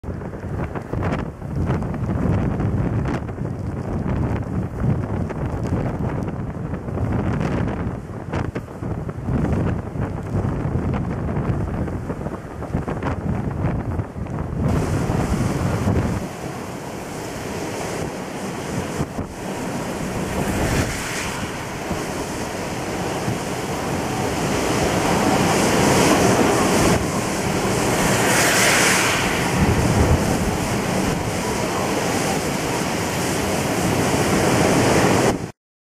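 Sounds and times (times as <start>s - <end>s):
strong wind gusts buffeting microphone: 0.0s - 35.5s.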